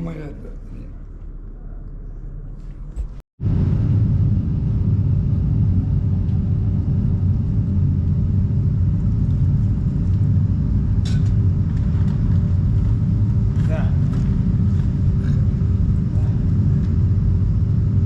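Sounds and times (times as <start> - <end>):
machinery rumbling and humming: 0.0 - 18.0.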